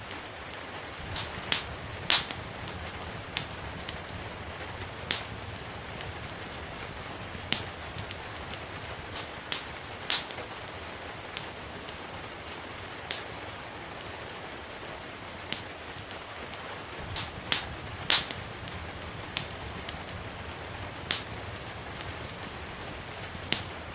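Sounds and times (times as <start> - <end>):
gentle rain hiss: 0.0 - 23.9
wood fire crackling: 0.0 - 23.9
sharp fire pops: 0.1 - 14.2, 15.3 - 23.9.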